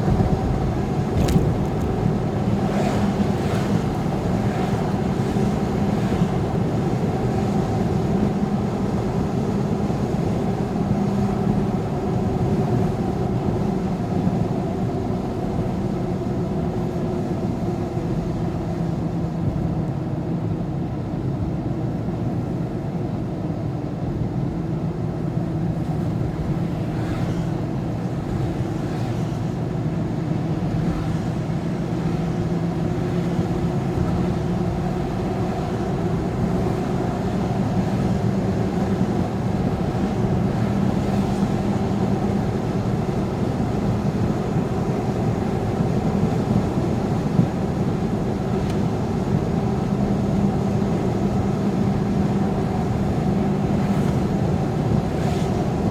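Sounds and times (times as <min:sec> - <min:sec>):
vehicle engine and road drone: 0:00.0 - 0:55.9.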